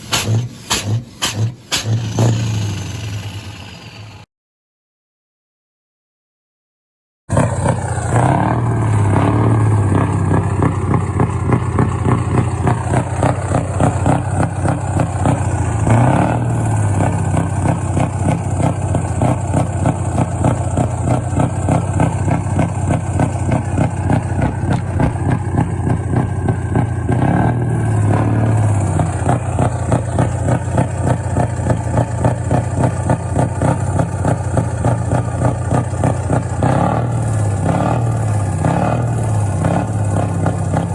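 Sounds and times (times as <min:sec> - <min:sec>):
diesel truck engine running: 0:00.0 - 0:04.2, 0:07.3 - 0:40.9.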